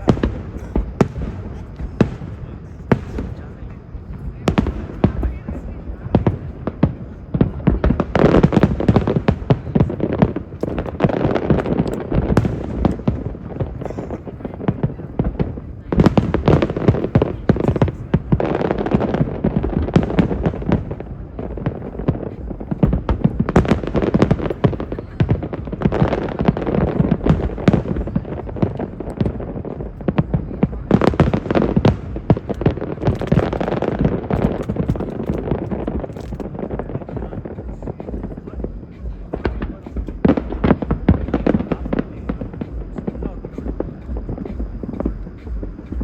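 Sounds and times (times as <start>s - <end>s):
fireworks bangs and crackle: 0.0s - 46.0s.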